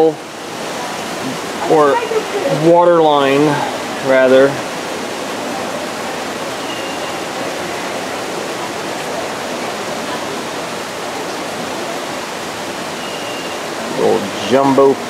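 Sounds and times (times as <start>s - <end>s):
water feature rushing: 0.0s - 15.0s.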